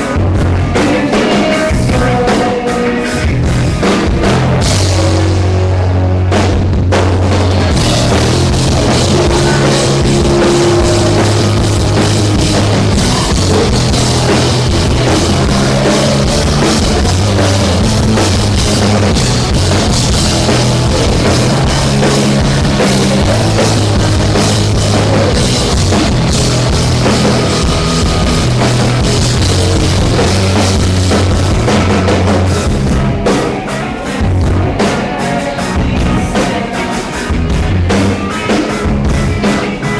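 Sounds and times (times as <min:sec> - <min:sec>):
bass notes: 0:00.0 - 0:39.9
drum kit: 0:00.0 - 0:39.9
rock band playing live: 0:00.0 - 0:39.9.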